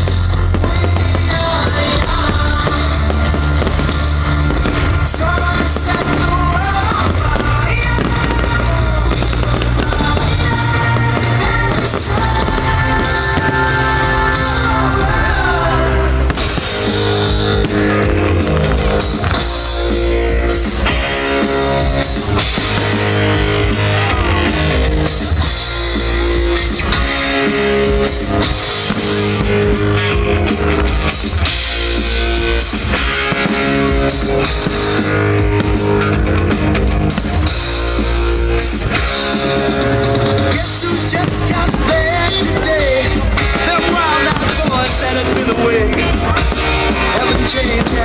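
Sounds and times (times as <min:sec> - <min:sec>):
rock music with guitar and drums: 0:00.0 - 0:48.0.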